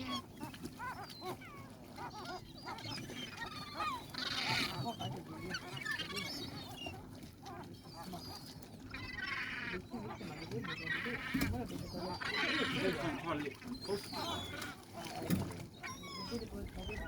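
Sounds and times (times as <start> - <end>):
seagulls calling: 0.0 - 17.0.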